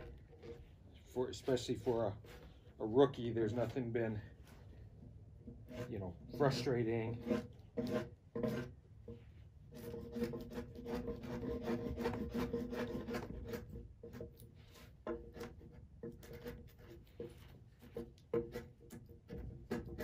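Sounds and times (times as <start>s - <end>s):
chisel scraping wood: 0.0s - 20.0s.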